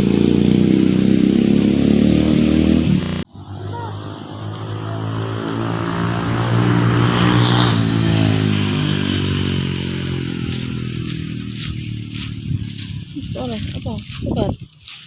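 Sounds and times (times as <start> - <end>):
vehicle engine passing by: 0.0 - 14.3.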